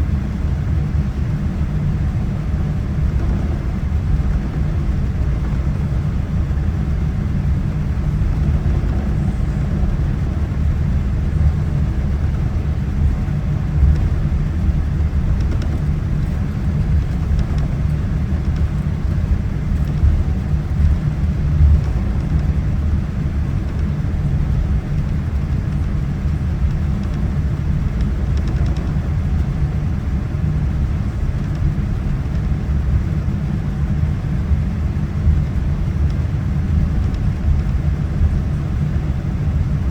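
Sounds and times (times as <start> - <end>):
airliner cabin low rumble: 0.0 - 39.9.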